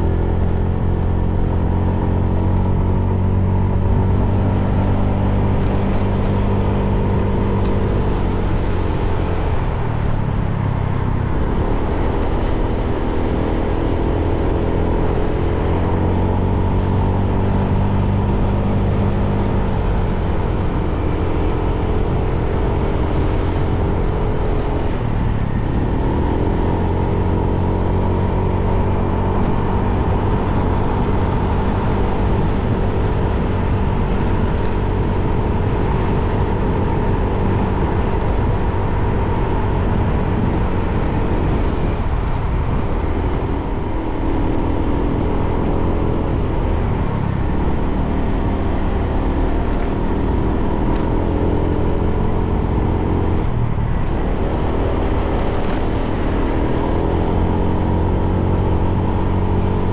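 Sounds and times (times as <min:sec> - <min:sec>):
wind and road rumble: 0:00.0 - 0:59.9.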